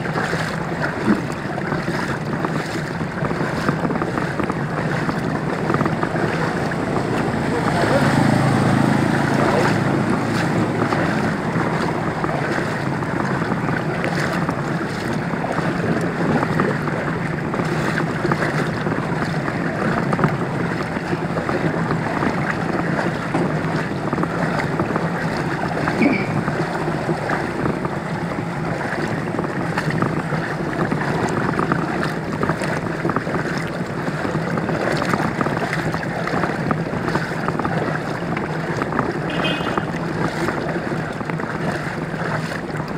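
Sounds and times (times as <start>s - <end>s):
floodwater sloshing and splashing: 0.0s - 42.9s.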